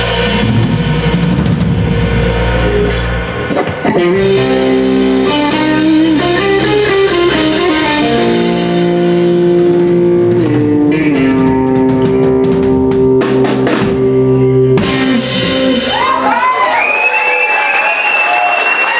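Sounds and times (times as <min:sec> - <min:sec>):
drum kit with cymbal crashes: 0:00.0 - 0:16.2
electric guitar with vibrato: 0:00.0 - 0:16.3.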